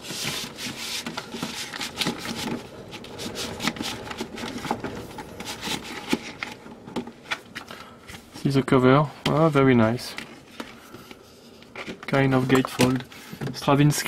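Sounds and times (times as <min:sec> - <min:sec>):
record sleeves rustling and sliding: 0:00.0 - 0:13.8.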